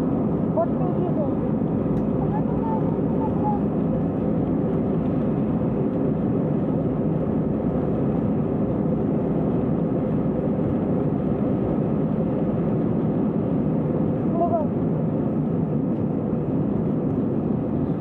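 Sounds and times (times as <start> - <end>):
jet engines droning: 0.0 - 18.0.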